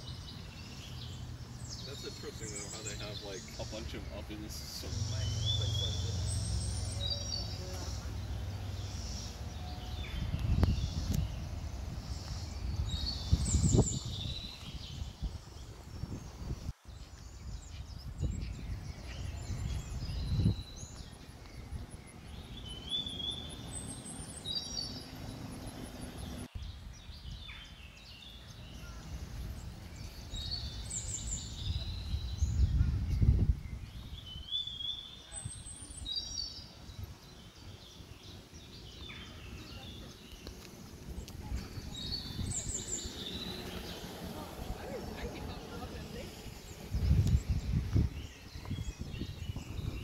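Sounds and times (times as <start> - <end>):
birds chirping: 0.0 - 50.0
low rumble on microphone: 4.2 - 16.7, 17.3 - 50.0.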